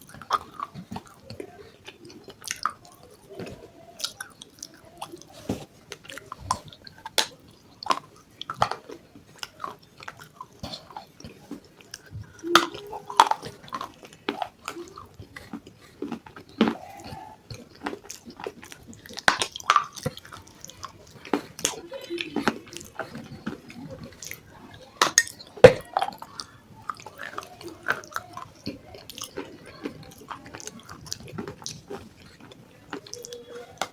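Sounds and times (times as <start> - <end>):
chewing with crisp crunches: 0.0 - 33.9
wet mouth sounds: 0.0 - 33.9.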